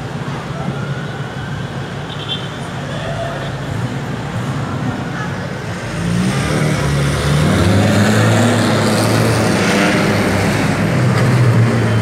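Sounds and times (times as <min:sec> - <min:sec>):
off-road vehicle engines: 0:00.0 - 0:12.0
road noise: 0:00.0 - 0:12.0.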